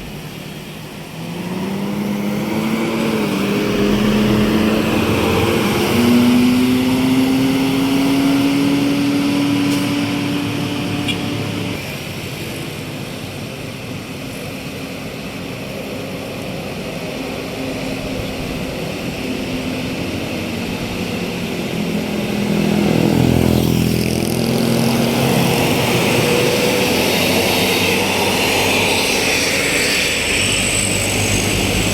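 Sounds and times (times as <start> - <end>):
bus diesel engine passing: 0.0 - 31.9
road noise hiss: 0.0 - 31.9.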